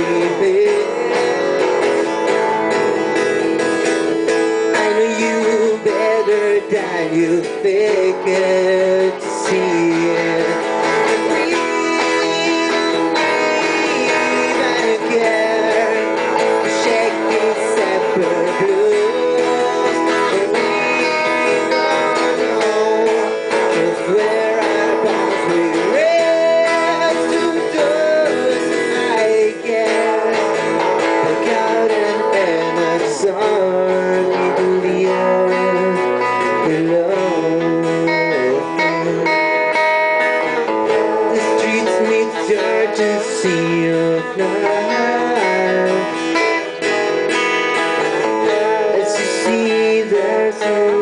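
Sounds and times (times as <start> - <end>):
electric guitar: 0.0 - 51.0
man singing: 0.0 - 51.0
strummed acoustic guitar: 0.0 - 51.0.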